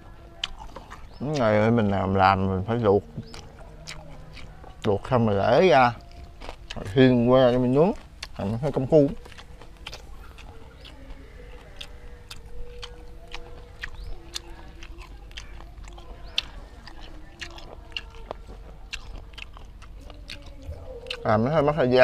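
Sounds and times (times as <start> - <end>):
close chewing: 0.0 - 22.0.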